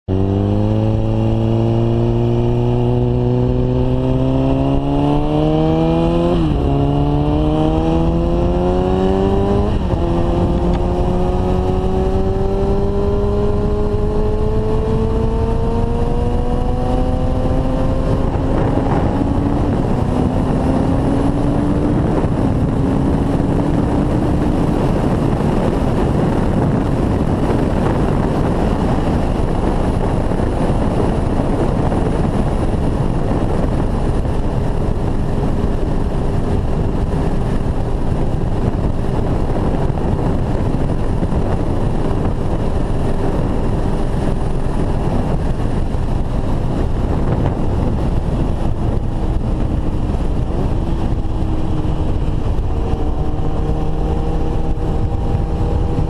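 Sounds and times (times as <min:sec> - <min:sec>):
motorcycle engine accelerating: 0:00.0 - 0:56.0
wind noise: 0:00.1 - 0:56.0.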